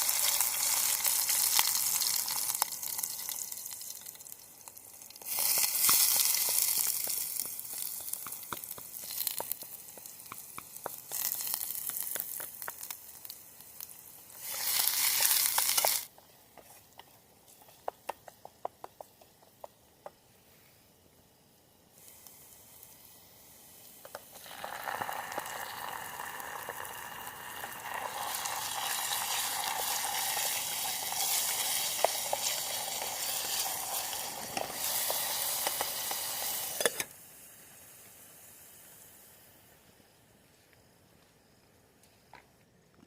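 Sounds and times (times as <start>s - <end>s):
food sizzling in hot oil: 0.0s - 19.4s, 21.3s - 40.2s
oil crackling and popping: 0.0s - 20.3s, 22.0s - 37.3s.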